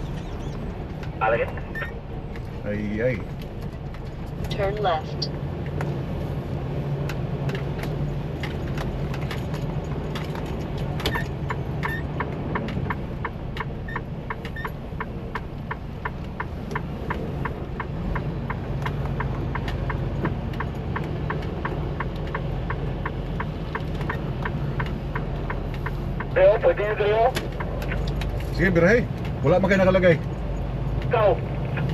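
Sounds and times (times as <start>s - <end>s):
truck engine hum: 0.0s - 31.9s
turn signal ticking: 0.0s - 31.9s.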